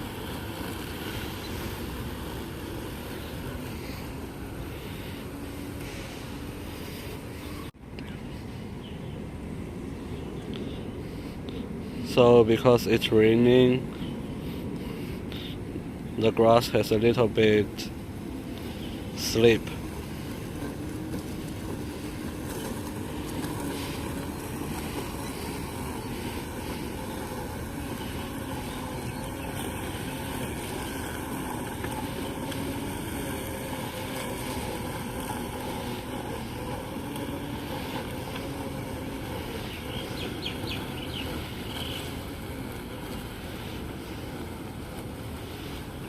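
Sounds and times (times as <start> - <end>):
robotic lawn mower humming: 0.0 - 46.0.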